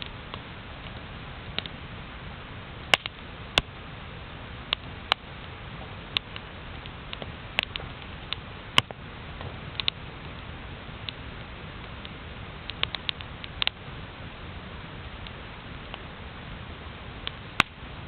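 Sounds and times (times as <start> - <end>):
campfire crackling and popping: 0.0 - 18.0
hiss of flames: 0.0 - 18.0.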